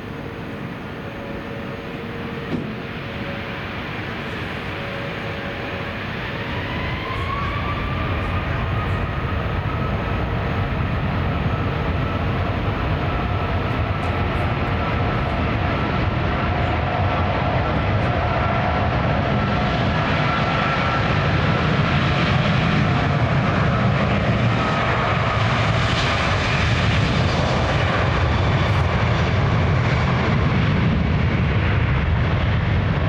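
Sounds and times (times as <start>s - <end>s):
jet engines spooling up: 0.0s - 30.3s
jet engine rumble: 0.0s - 33.0s
jet engine whine: 0.0s - 33.0s.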